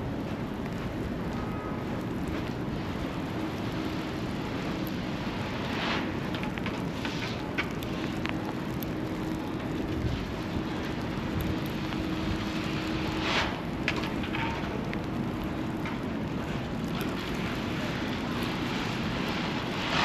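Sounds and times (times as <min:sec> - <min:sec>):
traffic hiss: 0:00.0 - 0:20.0
wind: 0:00.0 - 0:20.0.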